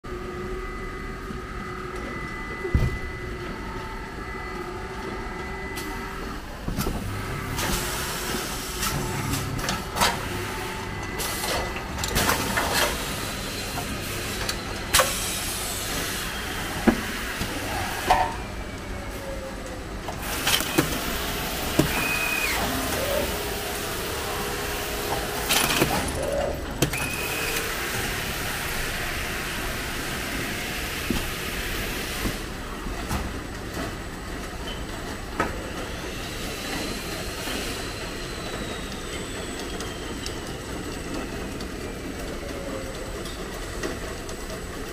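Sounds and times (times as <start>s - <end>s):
roller conveyors running: 0.1s - 44.9s.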